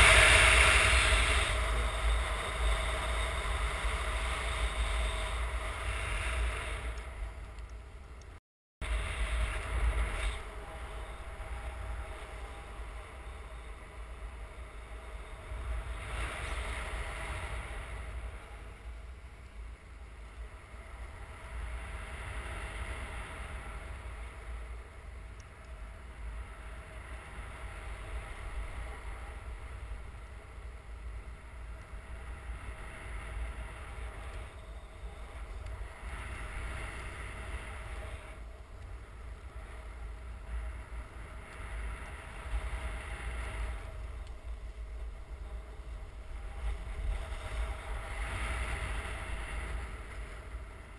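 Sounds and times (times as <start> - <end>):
wind noise on microphone: 0.0 - 50.9.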